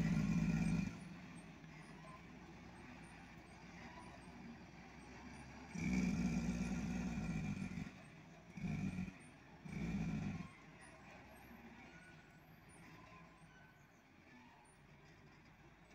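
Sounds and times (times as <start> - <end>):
truck diesel engine: 0.0 - 15.9.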